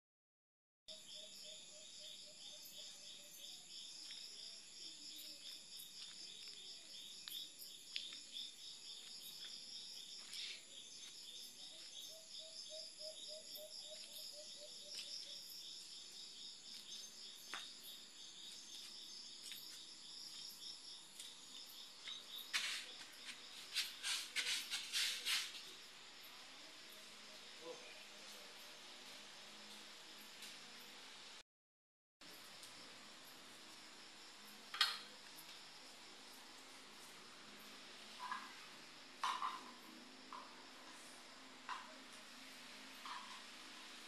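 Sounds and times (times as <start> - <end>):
crickets chirping: 0.9 - 31.4, 32.2 - 44.0.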